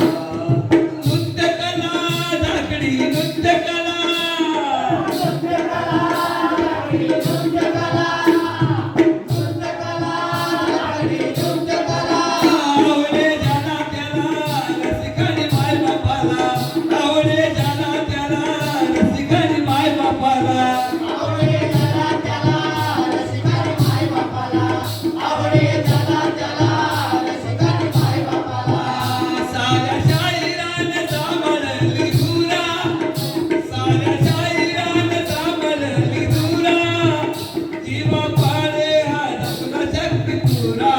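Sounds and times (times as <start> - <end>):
hand drum beat: 0.0 - 40.9.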